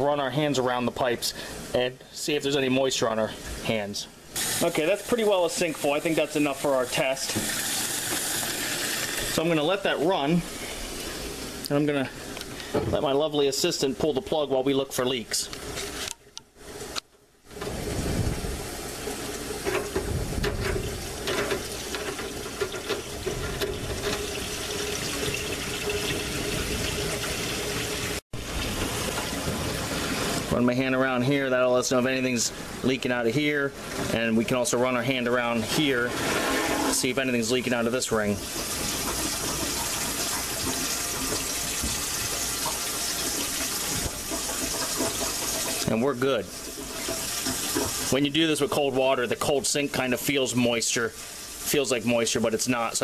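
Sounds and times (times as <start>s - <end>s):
water rushing down drain pipe: 4.3s - 12.4s, 16.6s - 53.0s.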